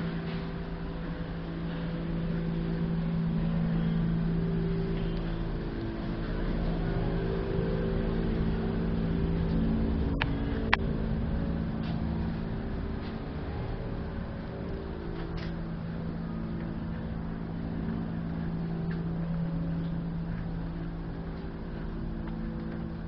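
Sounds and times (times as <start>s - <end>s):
low mechanical hum: 0.0s - 23.0s
low rumble: 0.0s - 23.0s.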